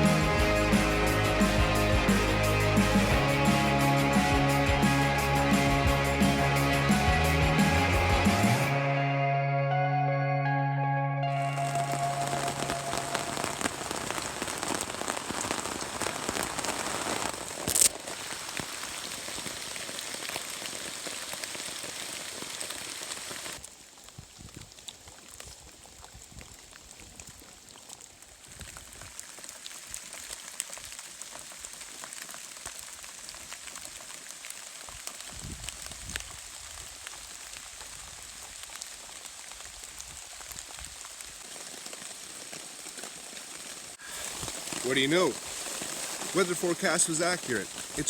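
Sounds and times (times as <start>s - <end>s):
steady rain hissing: 0.0s - 8.8s, 11.3s - 48.0s.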